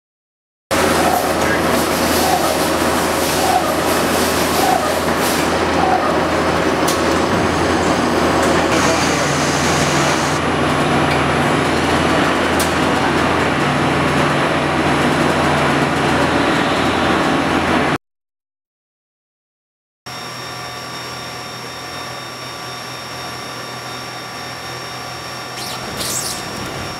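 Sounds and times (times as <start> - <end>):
cnc machine running: 0.7 - 18.0, 20.1 - 26.9.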